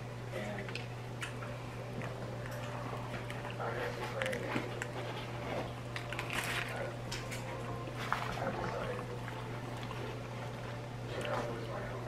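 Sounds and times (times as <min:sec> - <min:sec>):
steady low hum: 0:00.0 - 0:12.0
person chewing food: 0:00.7 - 0:11.5.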